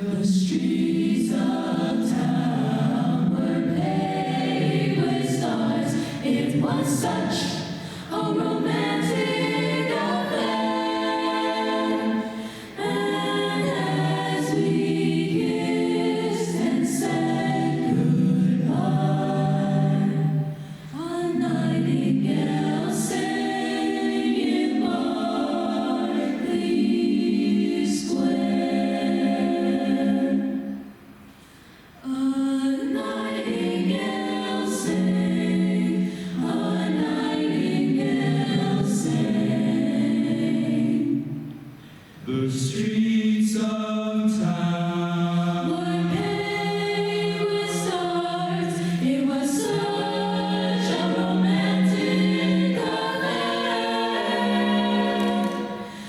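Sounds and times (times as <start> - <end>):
a cappella choir singing: 0.0 - 56.0.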